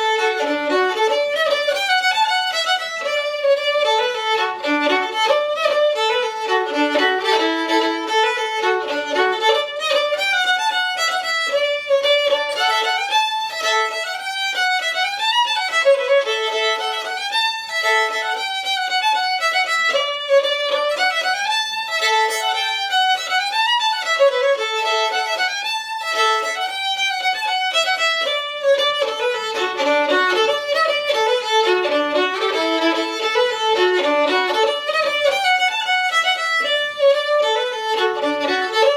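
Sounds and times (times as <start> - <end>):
solo fiddle playing: 0.0 - 38.9.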